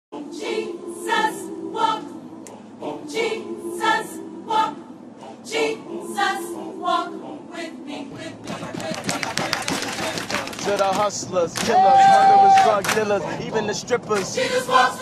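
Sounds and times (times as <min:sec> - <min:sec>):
group of voices singing: 0:00.1 - 0:15.0
low held hum: 0:00.2 - 0:15.0.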